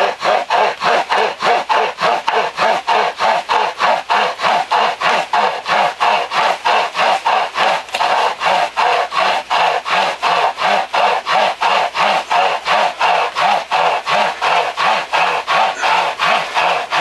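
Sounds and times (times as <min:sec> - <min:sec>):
hand chainsaw rasping through wood: 0:00.0 - 0:17.0.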